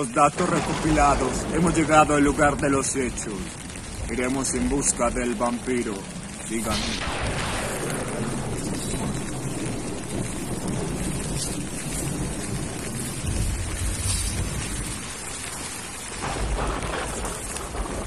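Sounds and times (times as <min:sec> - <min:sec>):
steady rain hissing: 0:00.0 - 0:18.0
thunder rumbling: 0:00.0 - 0:18.0.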